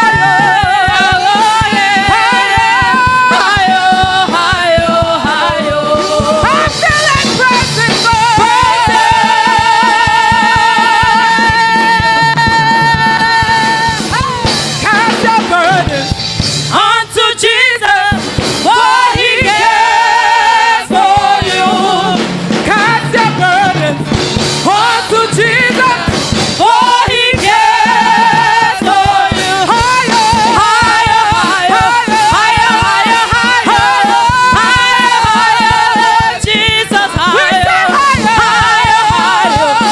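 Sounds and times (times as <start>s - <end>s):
gospel singing: 0.0s - 39.9s
instrumental backing with beat: 0.0s - 39.9s.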